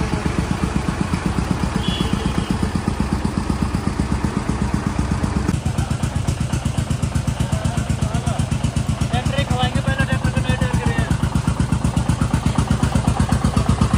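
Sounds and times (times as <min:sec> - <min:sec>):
diesel tractor engine running: 0:00.0 - 0:13.9.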